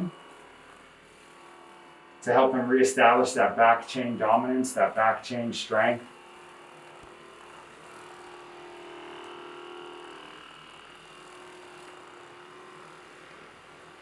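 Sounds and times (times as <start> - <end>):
massage gun motor hum: 0.0 - 14.0.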